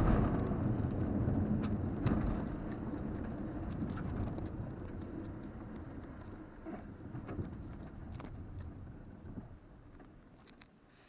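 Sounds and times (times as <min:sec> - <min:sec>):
car interior rumble: 0:00.0 - 0:10.4.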